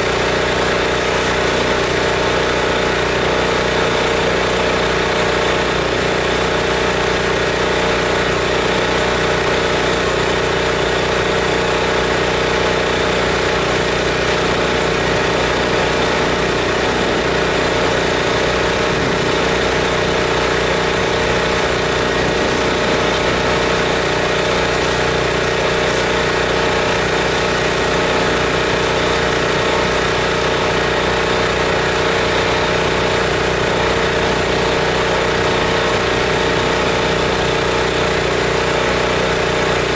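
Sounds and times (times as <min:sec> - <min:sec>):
pressure washer engine humming: 0:00.0 - 0:39.9.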